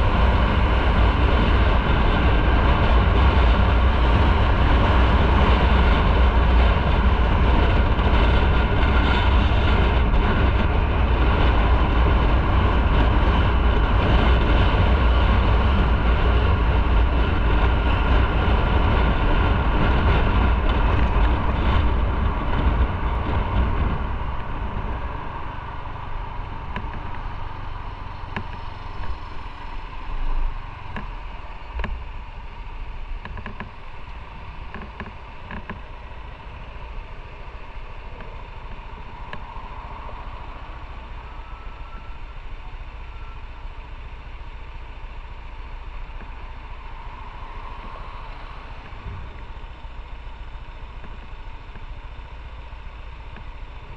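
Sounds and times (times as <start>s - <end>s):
motorcycle engine rumble: 0.0s - 53.9s
wind noise: 0.0s - 53.9s.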